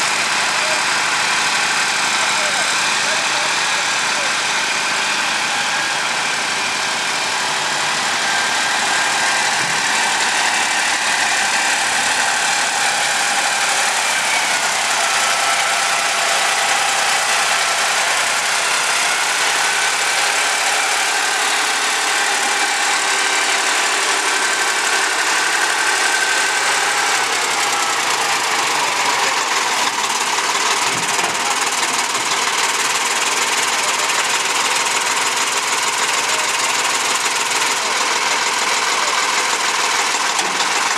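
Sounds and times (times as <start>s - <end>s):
vintage tractor engines running: 0.0s - 40.9s.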